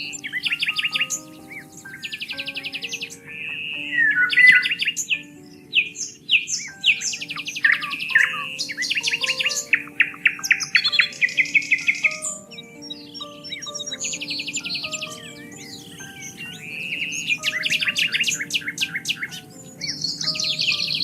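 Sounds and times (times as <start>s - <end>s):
soft background music: 0.0s - 21.0s
songbirds singing: 0.0s - 21.0s.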